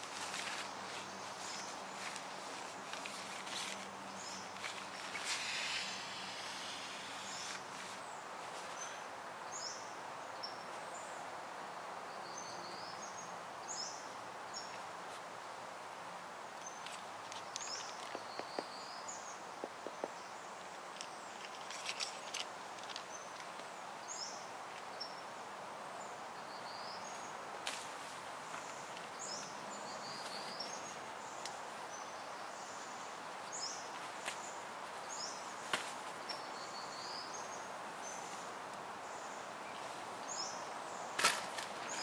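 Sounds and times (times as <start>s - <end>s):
steady forest hiss: 0.0s - 42.0s.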